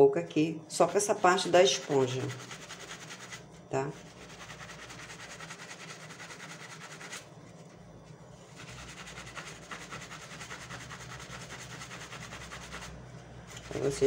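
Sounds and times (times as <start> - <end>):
sponge scrubbing metal: 0.8 - 7.3, 8.4 - 12.9, 13.5 - 14.0.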